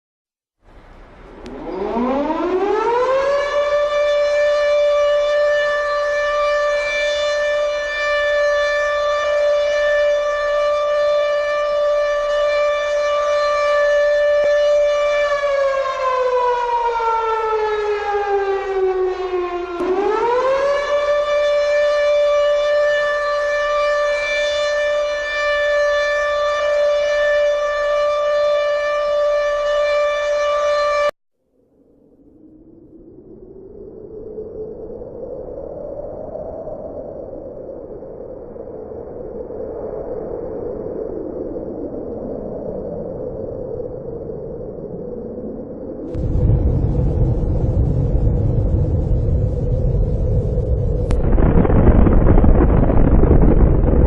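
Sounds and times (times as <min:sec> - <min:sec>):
siren wailing: 0:01.2 - 0:31.2, 0:40.2 - 0:54.0.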